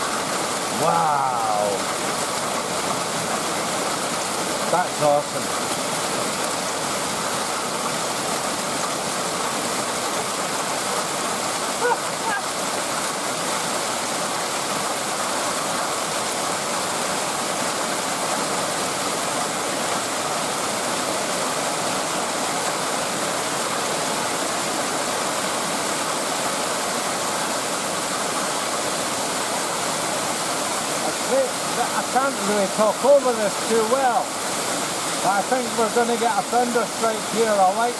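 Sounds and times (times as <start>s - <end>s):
torrential rain pouring: 0.0s - 37.9s.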